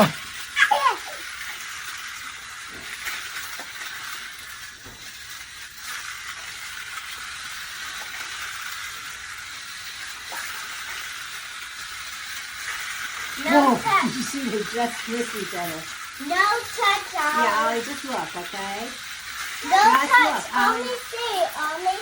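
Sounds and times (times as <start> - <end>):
toy race cars whirring on track: 0.0 - 22.0.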